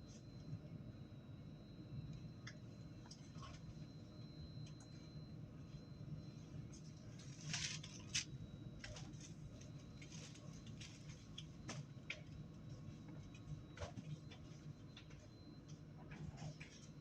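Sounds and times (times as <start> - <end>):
low hum inside tram: 0.0 - 17.0.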